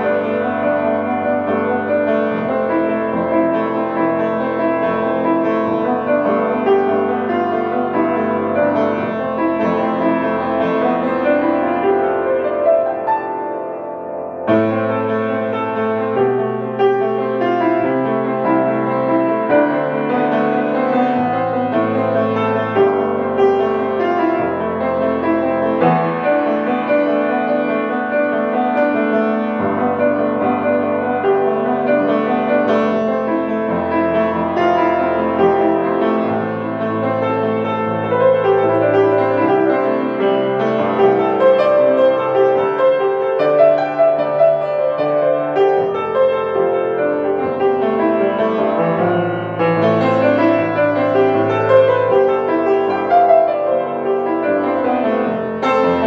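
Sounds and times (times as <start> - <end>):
grand piano ballad: 0.0 - 56.0.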